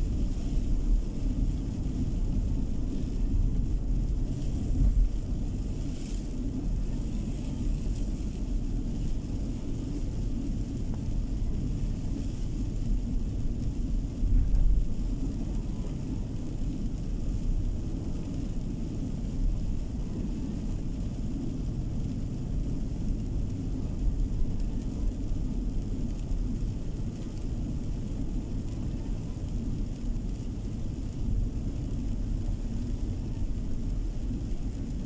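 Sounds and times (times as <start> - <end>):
car tyres and engine rumble: 0.0 - 35.0.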